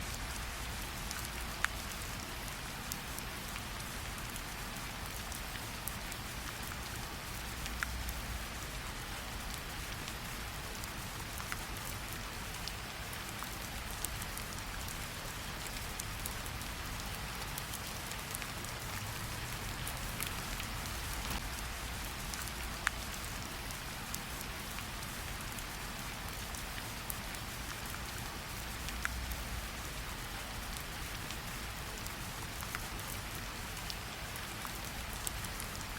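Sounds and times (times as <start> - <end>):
rain falling on leaves: 0.0 - 35.9.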